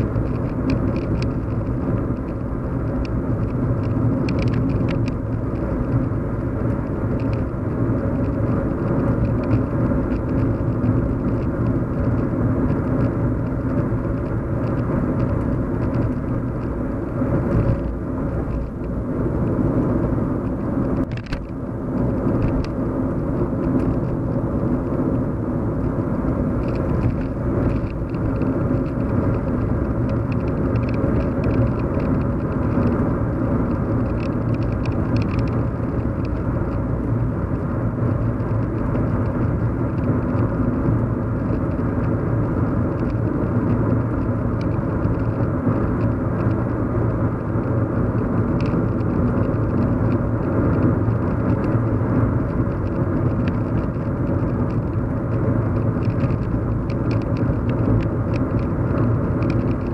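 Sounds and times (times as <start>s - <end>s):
car road and engine noise: 0.0s - 59.9s.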